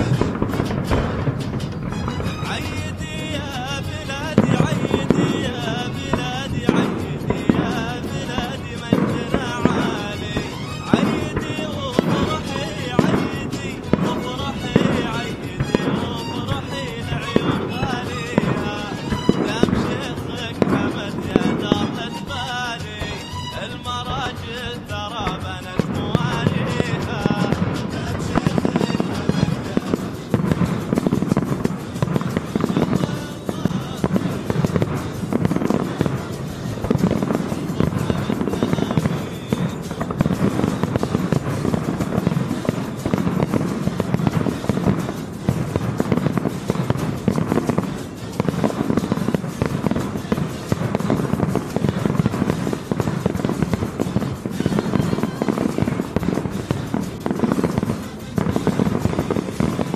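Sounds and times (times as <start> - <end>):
fireworks shell bursts and crackling: 0.0 - 59.9
music playing: 0.0 - 59.9.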